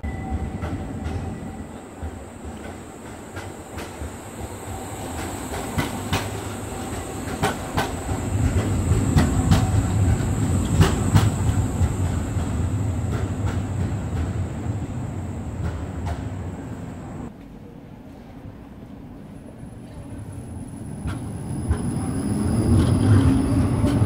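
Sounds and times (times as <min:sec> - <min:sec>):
tram rumbling past: 0:00.0 - 0:24.0.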